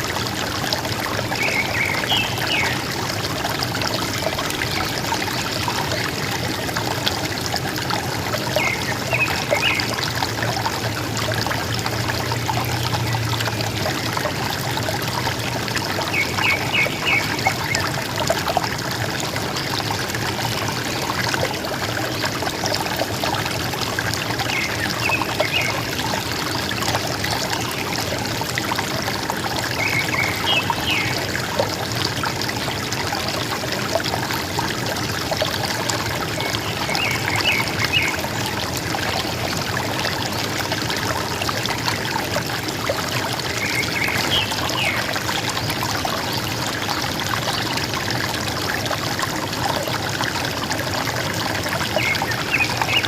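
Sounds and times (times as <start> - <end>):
river water trickling: 0.0 - 53.0.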